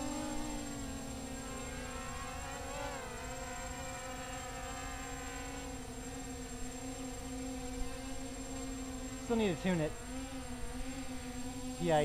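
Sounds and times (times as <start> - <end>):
quadcopter motors buzzing whine: 0.0 - 12.0.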